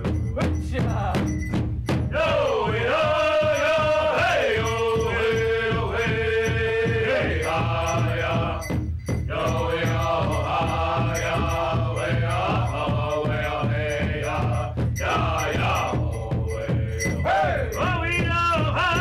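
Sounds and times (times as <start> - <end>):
steady drum beat: 0.0 - 19.0.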